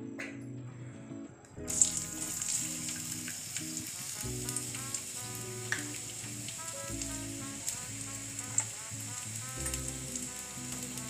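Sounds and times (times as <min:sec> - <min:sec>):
onions sizzling in hot oil: 0:01.7 - 0:11.0.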